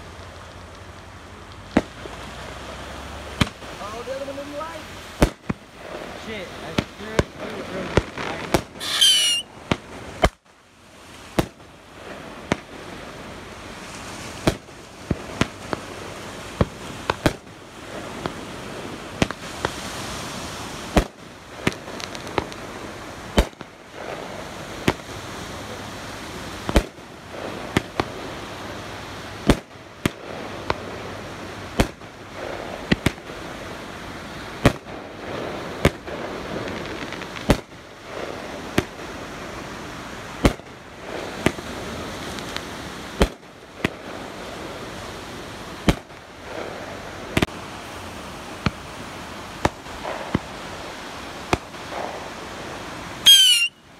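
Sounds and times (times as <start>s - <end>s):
fireworks hiss: 1.5s - 53.8s
fireworks bangs: 1.6s - 10.4s, 11.1s - 53.8s.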